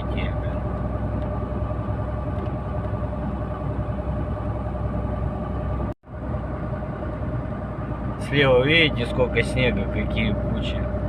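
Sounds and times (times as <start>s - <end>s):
constant whine: 0.0s - 11.0s
truck engine and road rumble: 0.0s - 11.0s.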